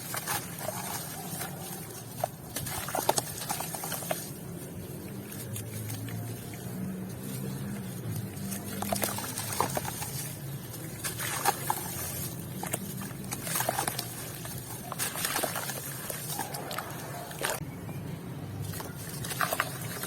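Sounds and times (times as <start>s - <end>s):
wet cement crunching: 0.0s - 20.0s.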